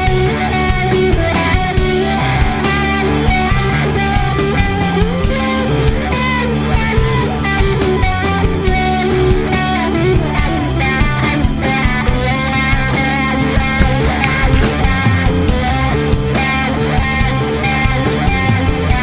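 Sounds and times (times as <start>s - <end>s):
guitar rock music: 0.0s - 19.0s.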